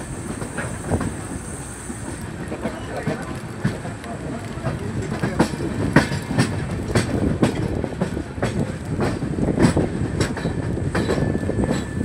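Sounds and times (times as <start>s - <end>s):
train wheels rumbling: 0.0s - 12.0s
wheels clacking over rail joints: 0.0s - 12.0s.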